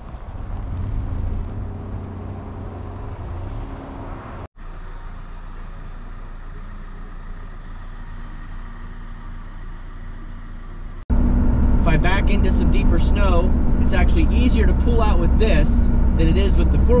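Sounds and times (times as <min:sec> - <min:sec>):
truck engine running: 0:00.0 - 0:17.0
tyre and road noise: 0:00.0 - 0:17.0.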